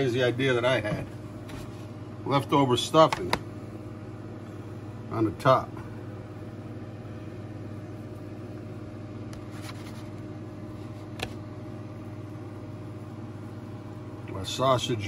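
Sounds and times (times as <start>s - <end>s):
appliance motor hum: 0.0s - 15.0s.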